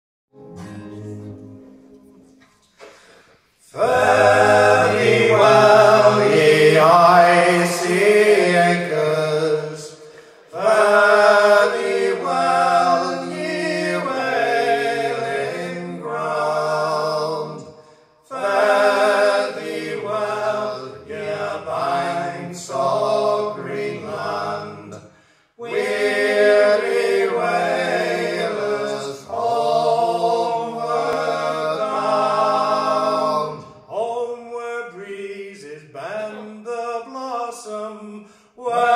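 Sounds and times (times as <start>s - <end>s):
men singing in harmony: 3.7s - 38.9s.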